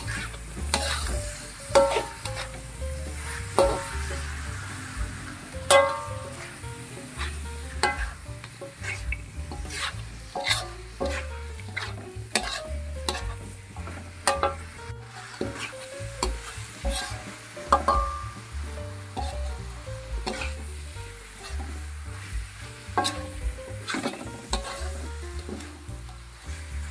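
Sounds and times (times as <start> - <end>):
food sizzling: 0.0 - 26.9
metal spoon scraping wok: 0.0 - 26.9.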